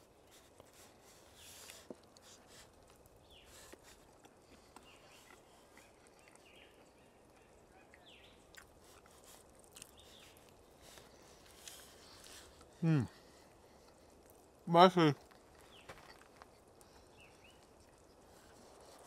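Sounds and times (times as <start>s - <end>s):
faint chewing: 0.0s - 19.0s.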